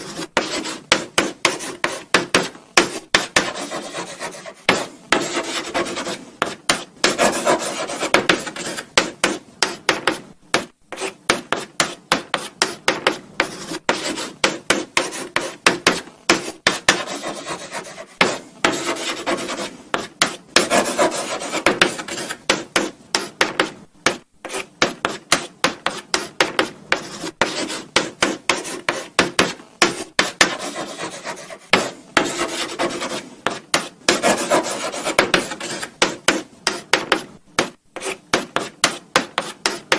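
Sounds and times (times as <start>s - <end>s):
chalk scratching on blackboard: 0.0s - 39.9s.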